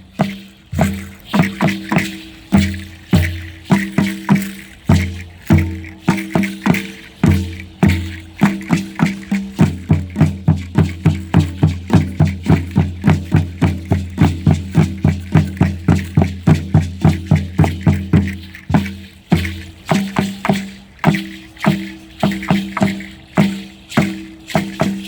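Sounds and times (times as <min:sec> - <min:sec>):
rattles shaking: 0:00.0 - 0:25.0.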